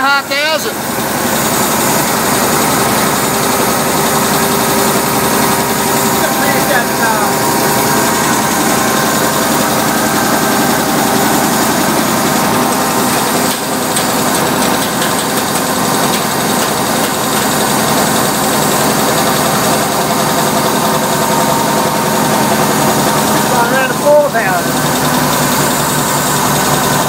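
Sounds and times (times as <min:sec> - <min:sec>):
air compressor running: 0:00.0 - 0:27.0.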